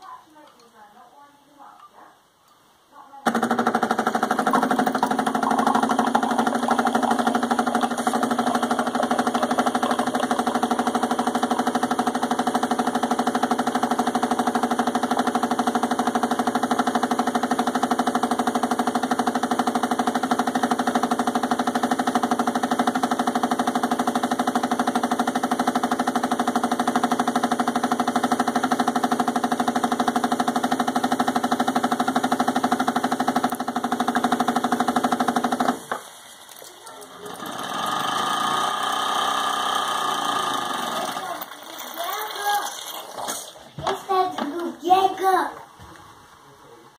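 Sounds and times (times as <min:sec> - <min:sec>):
coffee machine pump buzzing: 0:03.3 - 0:43.6.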